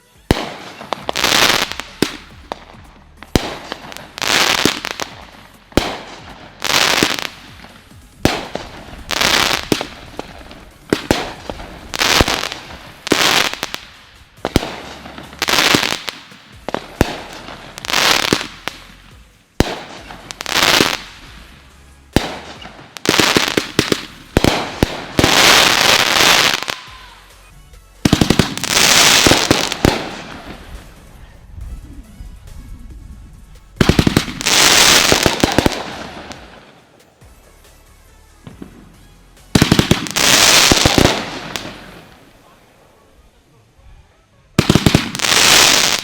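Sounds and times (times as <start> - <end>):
fireworks crackling bursts: 0.0 - 43.4, 44.6 - 46.0
background music: 0.0 - 46.0.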